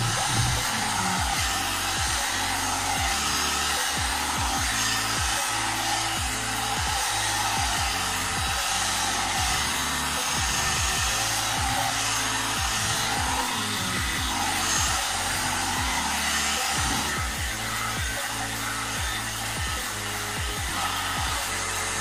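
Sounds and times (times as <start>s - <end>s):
hair dryer brush blowing: 0.0s - 22.0s.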